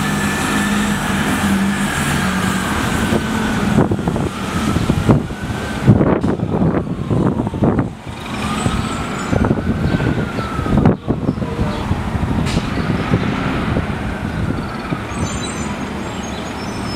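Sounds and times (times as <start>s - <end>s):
bus engine running: 0.0s - 16.9s
city street traffic: 0.0s - 16.9s.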